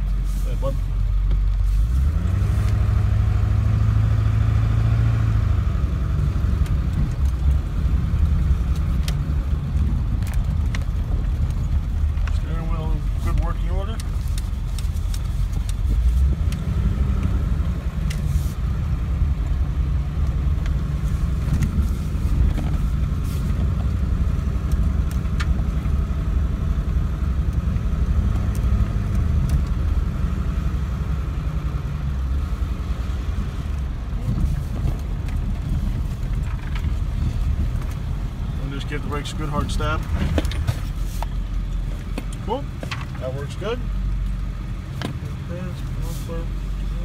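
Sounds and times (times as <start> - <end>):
diesel engine rumbling: 0.0 - 47.0.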